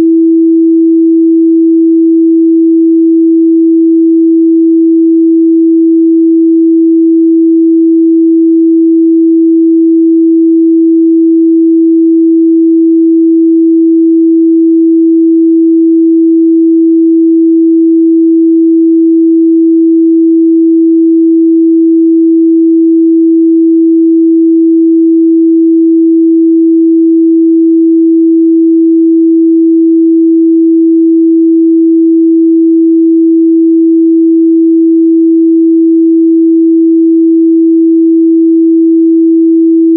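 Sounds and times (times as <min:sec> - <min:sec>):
pure sine test tone: 0:00.0 - 0:39.9.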